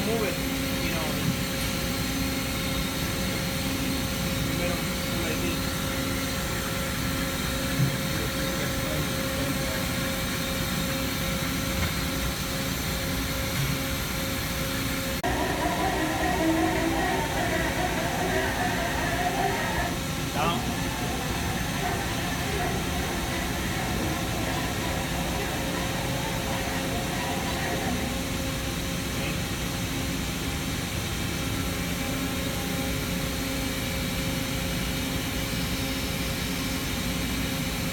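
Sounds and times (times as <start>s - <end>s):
boring mill machine hum: 0.0s - 37.9s
machine whine: 0.0s - 37.9s.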